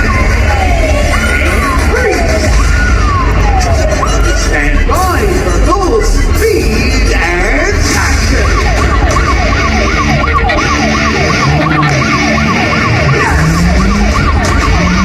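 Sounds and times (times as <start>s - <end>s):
siren yelping: 0.0s - 15.0s.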